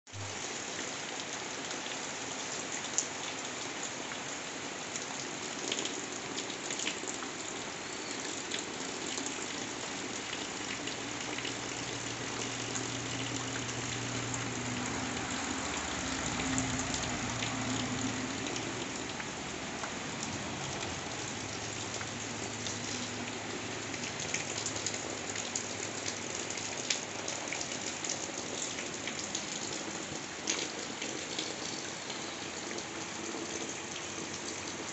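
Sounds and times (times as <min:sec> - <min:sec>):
rain falling on trees and grass: 0:00.1 - 0:34.9.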